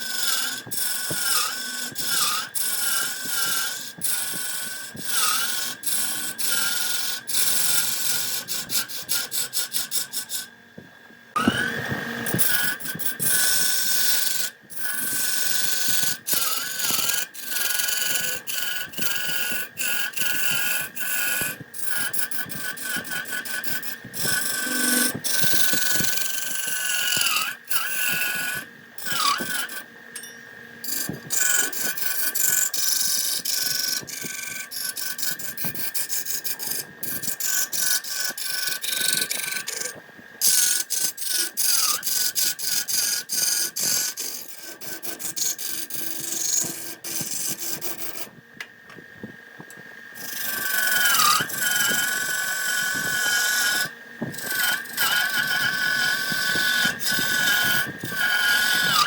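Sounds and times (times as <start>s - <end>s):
turning tool scraping wood: 0.0s - 10.5s, 11.4s - 48.3s, 49.6s - 59.0s
wood lathe whine: 0.0s - 59.0s.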